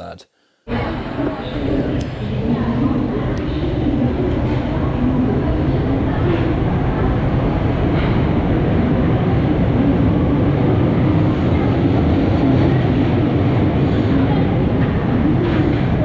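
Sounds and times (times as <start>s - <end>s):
faint hum: 0.0s - 16.0s
metro train rail rumble: 0.7s - 16.0s.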